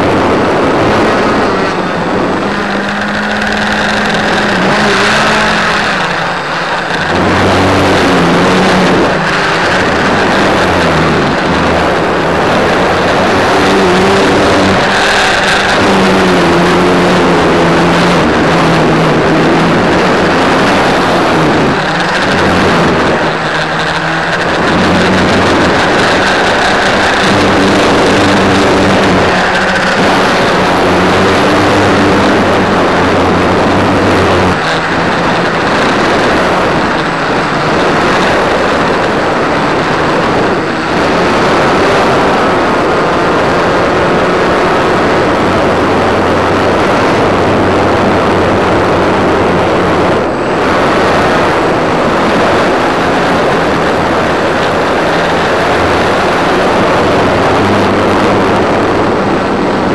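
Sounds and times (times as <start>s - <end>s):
model airplane propeller hum: 0.0s - 59.9s
wind rush over microphone: 0.0s - 59.9s.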